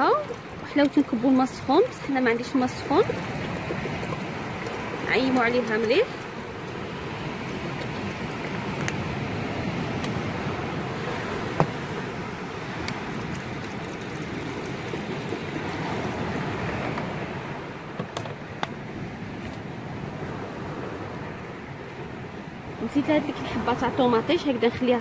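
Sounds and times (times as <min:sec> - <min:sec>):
sea surf: 0:00.0 - 0:25.0
wind: 0:00.0 - 0:25.0.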